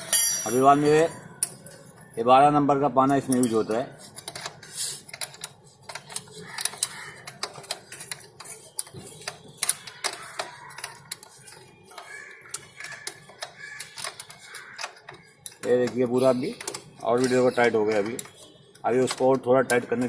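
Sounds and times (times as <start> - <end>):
spanner clicking on metal nut: 3.0 - 20.0.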